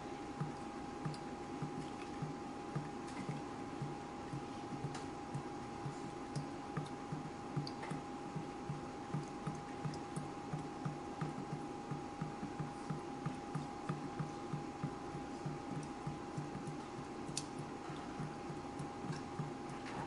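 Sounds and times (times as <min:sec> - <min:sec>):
water dripping: 0:00.3 - 0:20.0.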